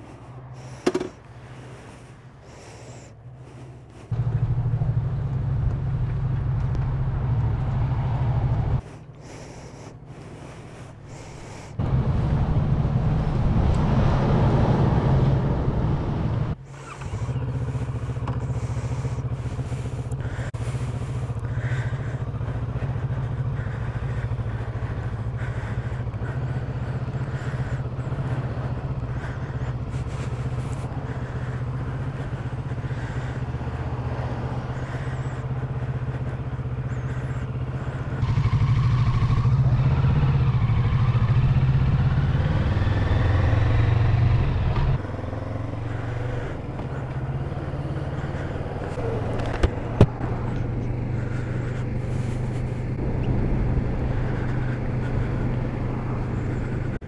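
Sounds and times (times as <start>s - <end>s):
motorcycle engine drone: 0.0s - 57.0s
road noise: 0.0s - 57.0s.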